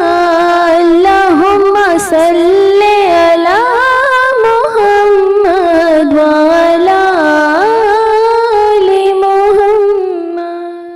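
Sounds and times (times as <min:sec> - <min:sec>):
person singing in a high voice: 0:00.0 - 0:10.9.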